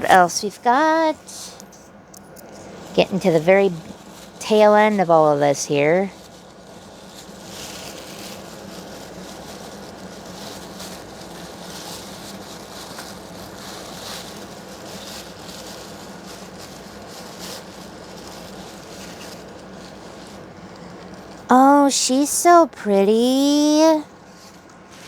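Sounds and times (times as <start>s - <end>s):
low background hum: 0.0s - 25.0s
tissue paper rustling: 2.6s - 25.0s.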